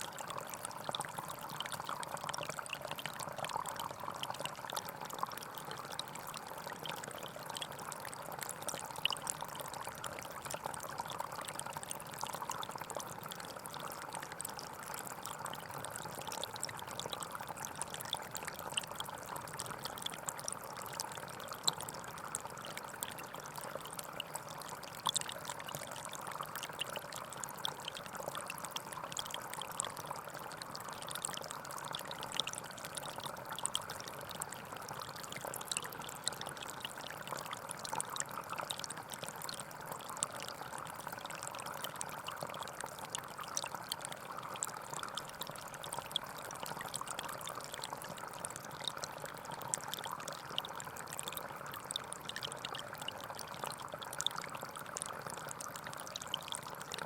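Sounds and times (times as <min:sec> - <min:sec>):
stream flowing over stones: 0:00.0 - 0:57.0.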